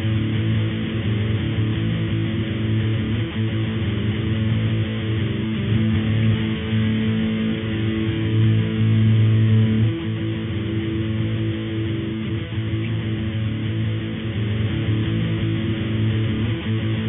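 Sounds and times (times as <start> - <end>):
muffled guitar music: 0.0 - 17.0.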